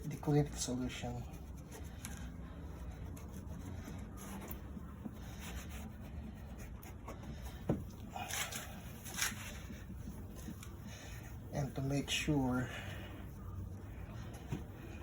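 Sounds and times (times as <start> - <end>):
cloth wiping plastic lens: 0.0 - 15.0
low steady hum: 0.0 - 15.0.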